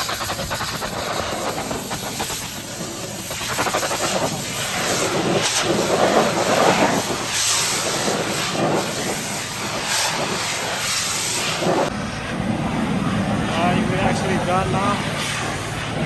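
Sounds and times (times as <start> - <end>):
pressure washer spray hissing: 0.0 - 11.9, 13.3 - 16.0.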